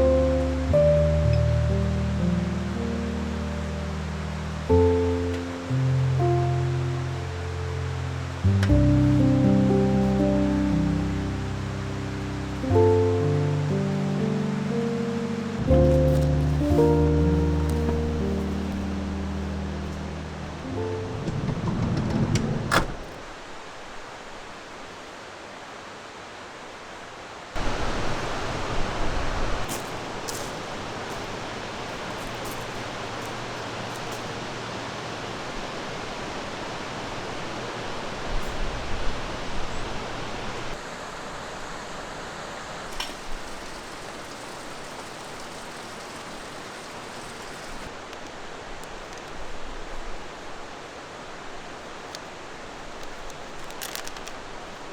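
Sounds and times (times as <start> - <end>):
stream water rushing: 0.0 - 21.2, 22.6 - 54.9.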